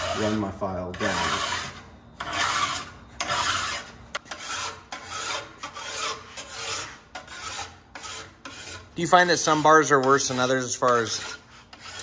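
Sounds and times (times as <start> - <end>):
metal file rasping on steel: 0.0 - 12.0.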